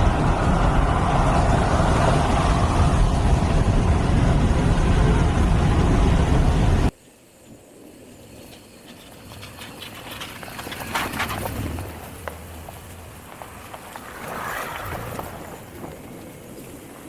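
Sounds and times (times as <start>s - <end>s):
vehicle road and engine noise: 0.0s - 7.0s, 8.4s - 17.0s.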